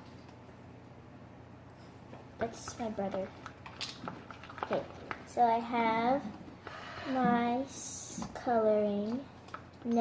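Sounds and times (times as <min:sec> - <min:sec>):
faint low hum and hiss: 0:00.0 - 0:10.0.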